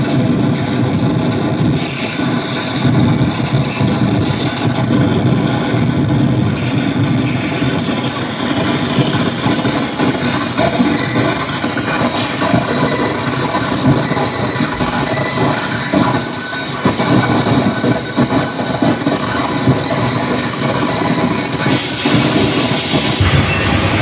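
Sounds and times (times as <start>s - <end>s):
harsh electronic noise music: 0.0s - 24.0s.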